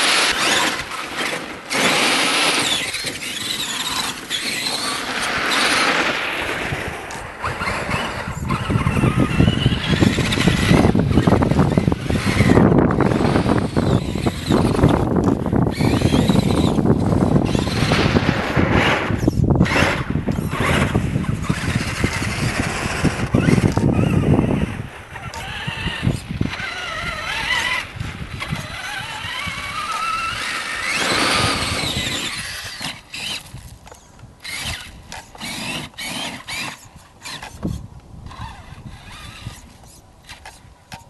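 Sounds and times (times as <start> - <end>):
electric toy truck motor whining: 0.0 - 6.1, 6.7 - 41.0.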